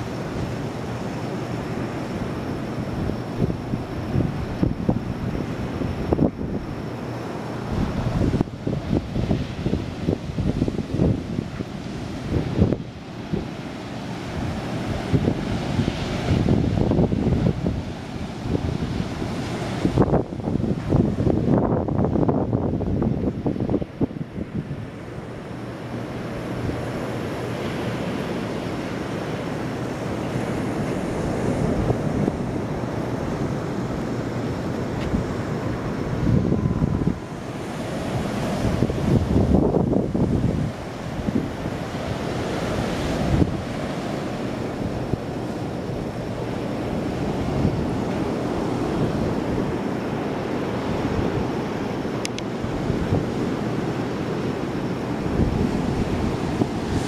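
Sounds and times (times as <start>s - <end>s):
surf washing: 0.0s - 57.0s
wind blowing across microphone: 0.0s - 57.0s.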